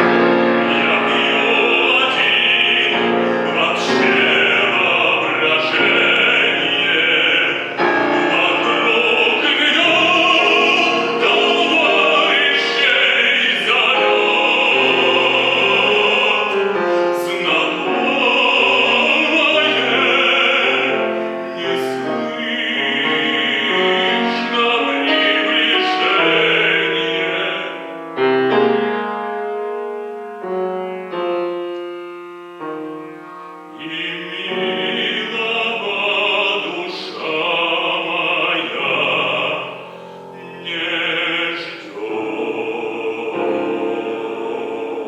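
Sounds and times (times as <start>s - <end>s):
operatic solo voice singing: 0.0s - 27.9s, 33.7s - 45.0s
piano accompaniment: 0.0s - 45.0s.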